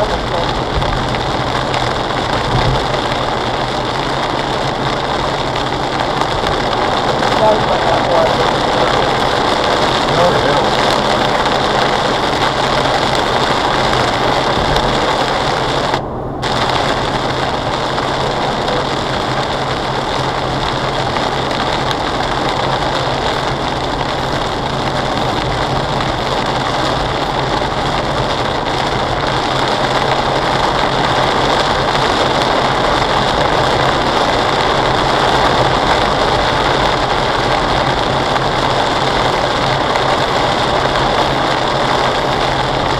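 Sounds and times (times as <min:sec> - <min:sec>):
heavy rain beating on car: 0:00.0 - 0:42.9
low engine hum: 0:00.0 - 0:42.9
tyre noise on wet road: 0:00.0 - 0:42.9.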